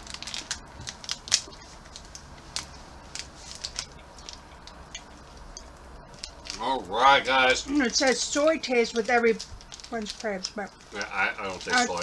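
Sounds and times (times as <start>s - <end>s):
plastic package crinkling: 0.0s - 6.8s, 7.4s - 12.0s.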